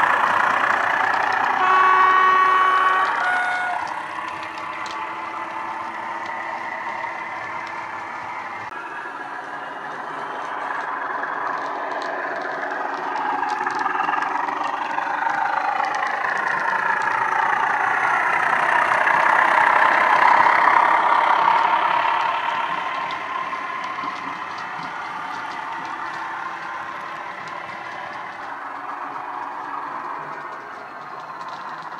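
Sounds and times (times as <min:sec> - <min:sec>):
diesel engine sound from speaker: 0:00.0 - 0:31.9.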